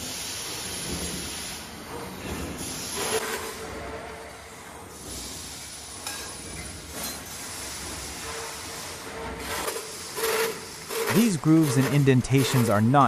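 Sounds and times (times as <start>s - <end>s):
machine hissing cutting steel rod: 0.0s - 13.0s.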